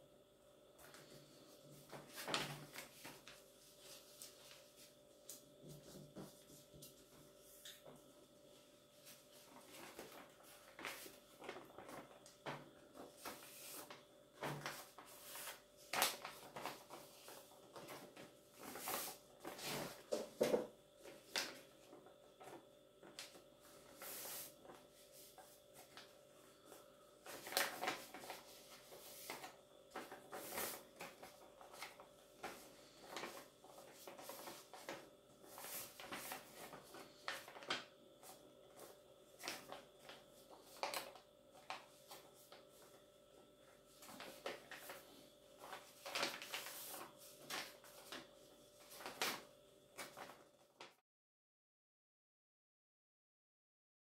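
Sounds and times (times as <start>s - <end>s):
paper rustling and crinkling: 0.8s - 51.0s.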